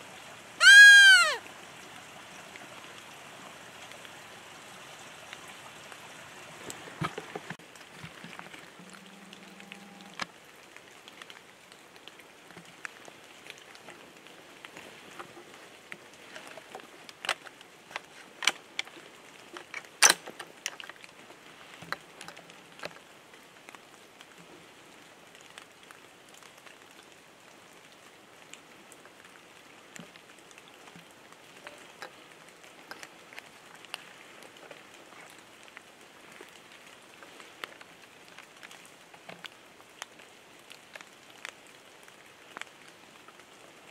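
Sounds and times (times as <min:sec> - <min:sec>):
rain on leaves: 0:00.0 - 0:43.9.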